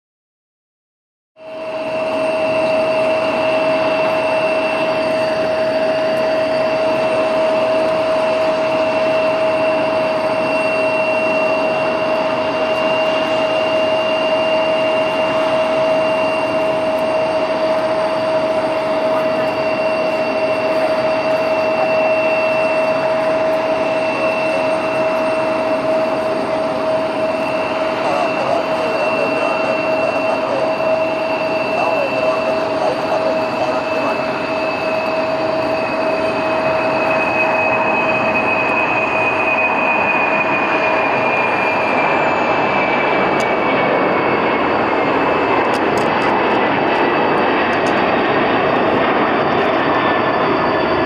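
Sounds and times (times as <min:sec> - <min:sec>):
high engine whine: 0:01.4 - 0:51.0
jet engine roar: 0:01.4 - 0:51.0.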